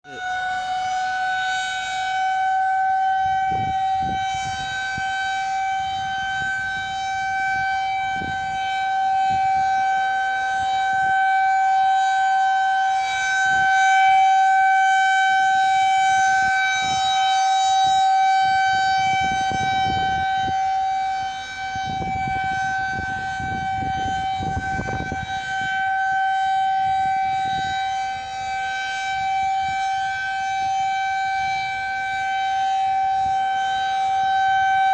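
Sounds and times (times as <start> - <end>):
tornado warning siren wailing: 0.0 - 34.9.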